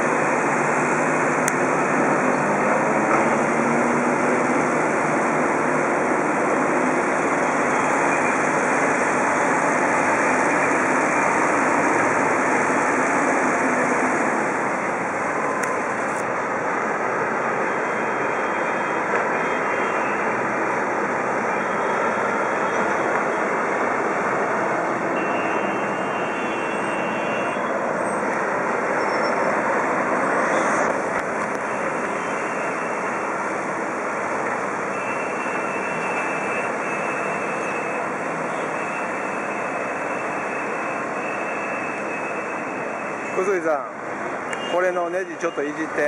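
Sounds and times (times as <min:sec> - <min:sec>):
busy road traffic: 0:00.0 - 0:46.0.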